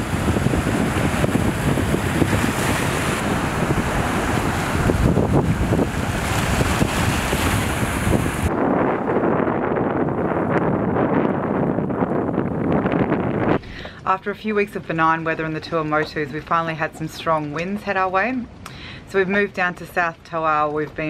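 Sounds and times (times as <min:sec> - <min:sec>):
waves washing onto shore: 0:00.0 - 0:19.2
wind buffeting microphone: 0:00.0 - 0:21.0.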